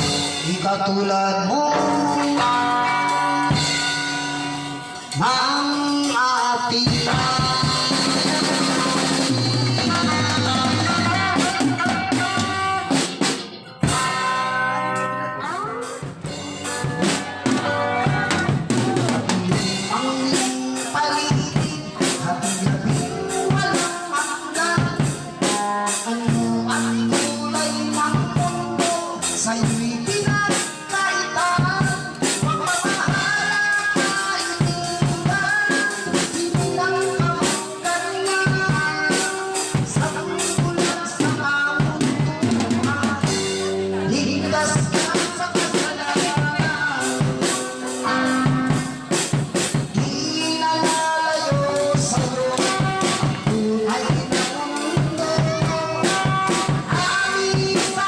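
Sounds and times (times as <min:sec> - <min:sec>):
drum kit beat: 0:00.0 - 0:58.0
strummed guitar chords: 0:00.0 - 0:58.0.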